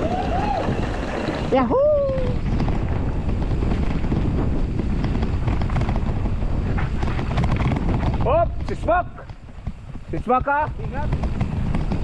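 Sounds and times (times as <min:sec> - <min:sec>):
tyres rumbling on dirt trail: 0:00.0 - 0:12.0
wind buffeting microphone: 0:00.0 - 0:12.0.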